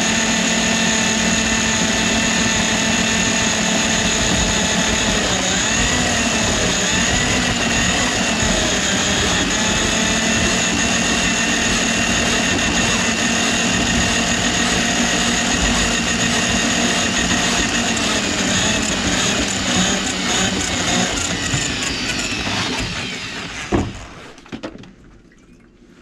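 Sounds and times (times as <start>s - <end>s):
drain cleaning machine motor whining: 0.0s - 24.4s.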